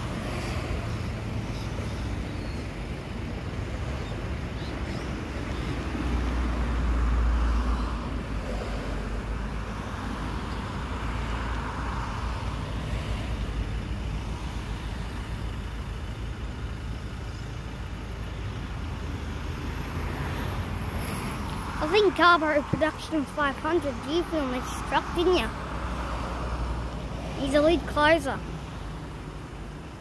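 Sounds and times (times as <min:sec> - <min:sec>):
cars passing: 0:00.0 - 0:30.0.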